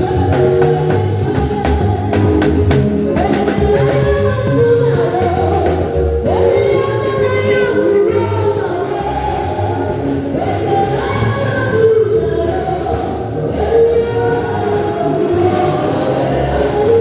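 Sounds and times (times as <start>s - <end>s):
band bass accompaniment: 0.0s - 17.0s
choir singing: 0.0s - 17.0s.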